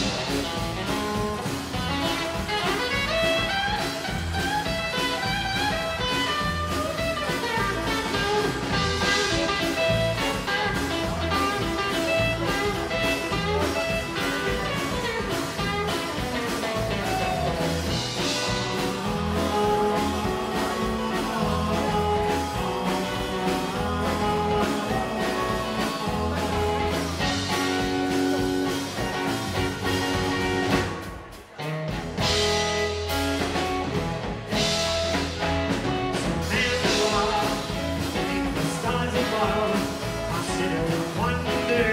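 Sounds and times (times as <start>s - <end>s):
drums: 0.0s - 41.9s
live rockabilly band: 0.0s - 41.9s.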